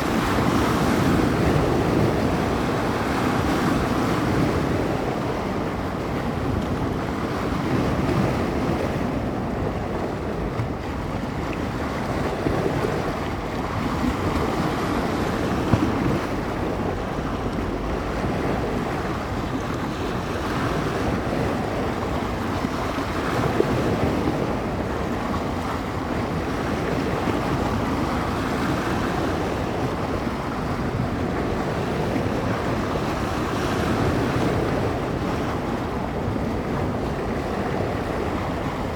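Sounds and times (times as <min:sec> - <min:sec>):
waves breaking along shore: 0:00.0 - 0:38.9
wind buffeting microphone: 0:00.0 - 0:38.9.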